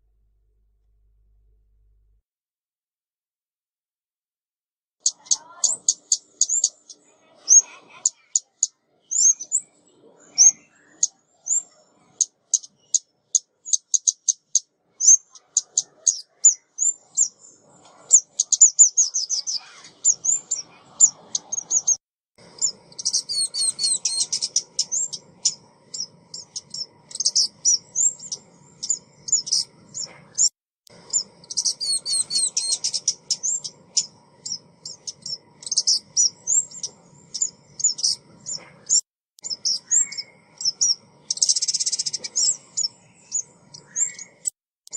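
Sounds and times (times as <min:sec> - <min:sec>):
songbird chirping and trilling: 0:05.0 - 0:44.9.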